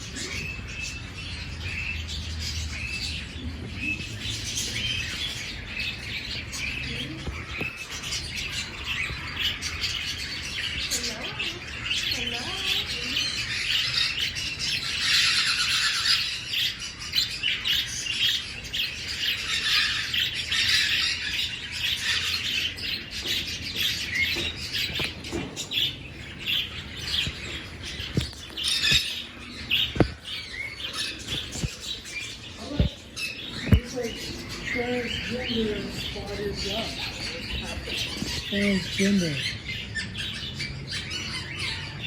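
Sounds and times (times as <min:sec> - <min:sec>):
aviary birds chirping and squawking: 0:00.0 - 0:42.0.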